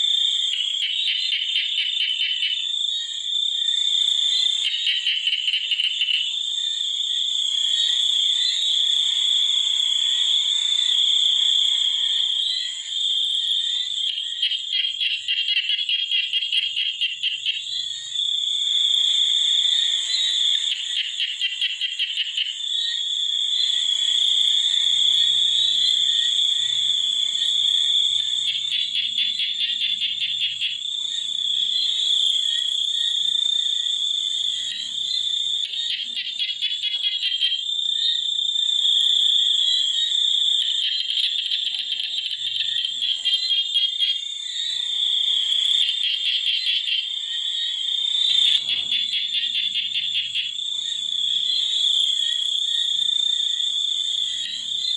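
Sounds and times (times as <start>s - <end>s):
frogs pulsing trills: 0.0s - 54.9s
high-pitched insect drone: 0.0s - 54.9s.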